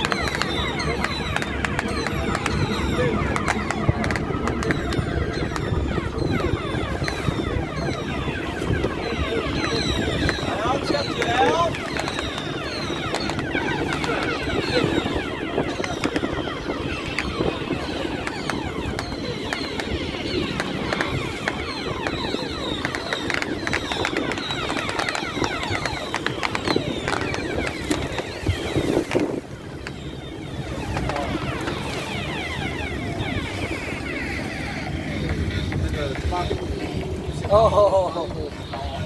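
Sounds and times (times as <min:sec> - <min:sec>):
boat engine running: 0:00.0 - 0:39.0
rushing water: 0:00.0 - 0:39.0
wind: 0:00.0 - 0:39.0.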